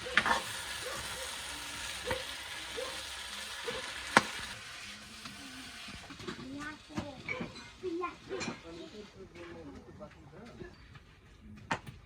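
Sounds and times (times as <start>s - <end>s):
potatoes sizzling in oil: 0.0s - 9.7s.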